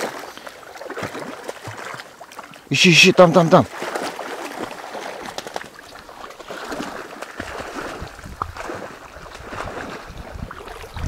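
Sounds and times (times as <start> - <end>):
water splashing in reeds: 0.0 - 11.0.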